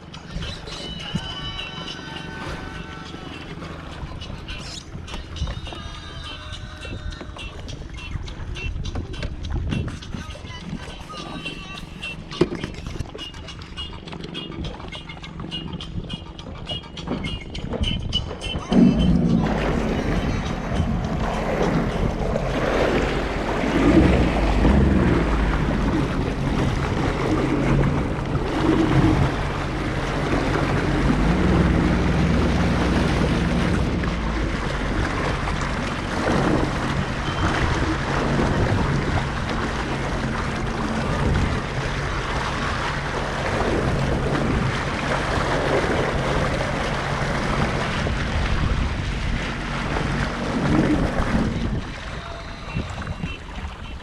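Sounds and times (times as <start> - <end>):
jet ski engine running: 0.0 - 54.0
water rushing and splashing: 0.0 - 54.0
wind buffeting microphone: 3.5 - 54.0.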